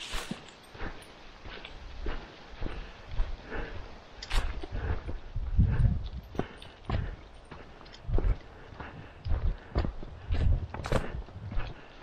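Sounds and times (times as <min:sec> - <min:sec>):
footsteps on leafy dirt trail: 0:00.0 - 0:12.0.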